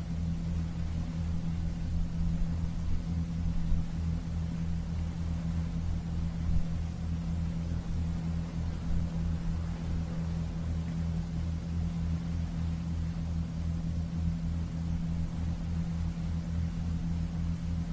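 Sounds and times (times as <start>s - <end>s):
low engine drone: 0.0s - 17.9s.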